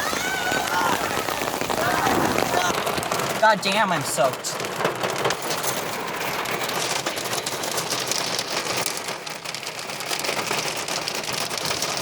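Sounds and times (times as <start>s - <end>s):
hail and rain pelting: 0.0s - 12.0s.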